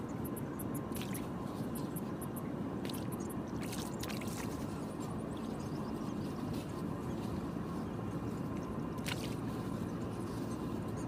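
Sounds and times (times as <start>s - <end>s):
low background rush: 0.0s - 11.0s
splashing and dripping water: 0.8s - 11.0s.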